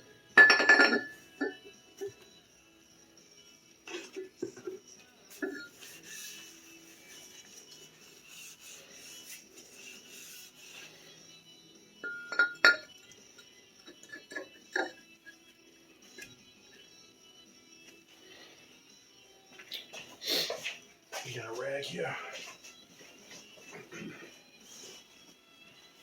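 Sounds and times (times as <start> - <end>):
faint background music: 0.0 - 26.0.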